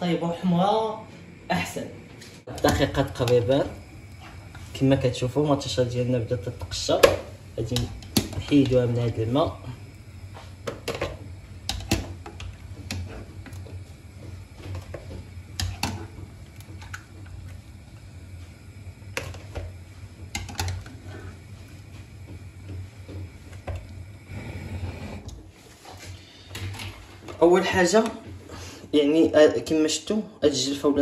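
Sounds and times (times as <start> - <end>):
steady low hum: 0.0 - 29.8.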